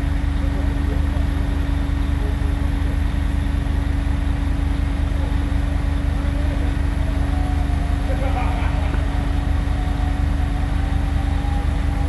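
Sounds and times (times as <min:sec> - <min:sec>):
large engine droning: 0:00.0 - 0:12.0.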